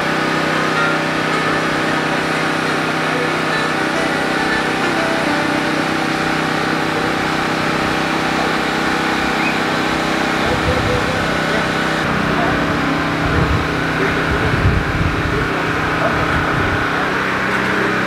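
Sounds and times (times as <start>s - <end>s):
steady engine drone: 0.0s - 18.0s.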